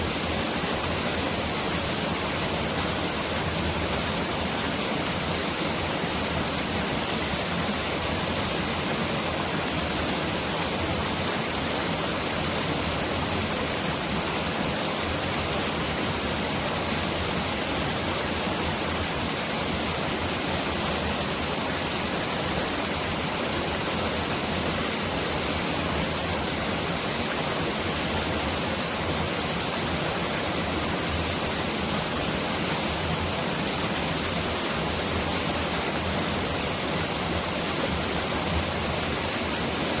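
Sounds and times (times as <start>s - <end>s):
stream flowing: 0.0s - 40.0s.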